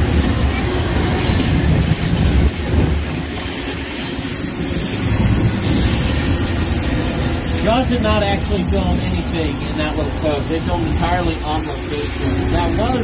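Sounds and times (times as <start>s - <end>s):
tram rumbling along: 0.0s - 13.0s.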